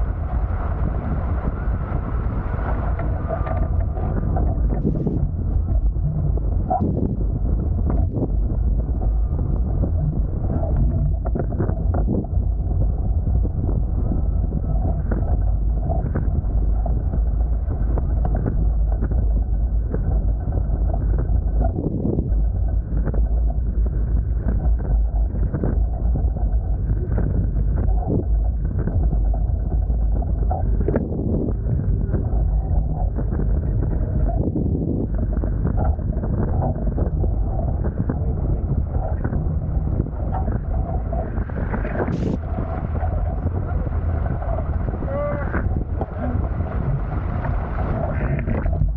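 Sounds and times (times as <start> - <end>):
wind rumble on microphone: 0.0 - 48.9.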